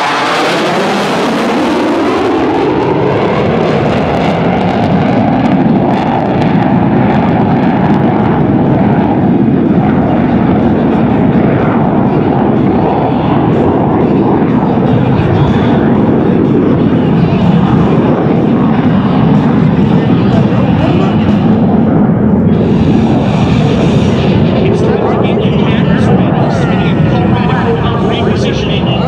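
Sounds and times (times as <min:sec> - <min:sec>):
jet engine afterburner roar: 0:00.0 - 0:29.0.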